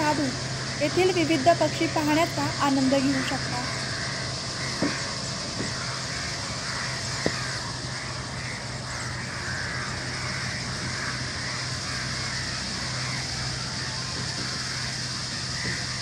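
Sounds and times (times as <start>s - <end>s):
flock of starlings chattering: 0.0s - 16.0s
steady low hum: 0.0s - 16.0s.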